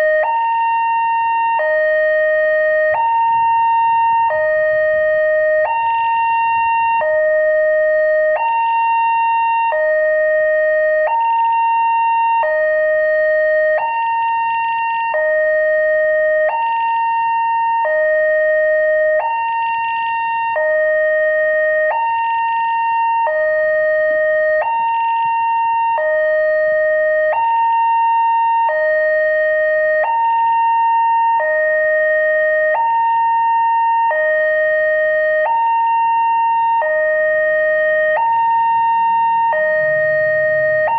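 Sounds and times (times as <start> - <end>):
level crossing two-tone warning siren: 0.0 - 40.9.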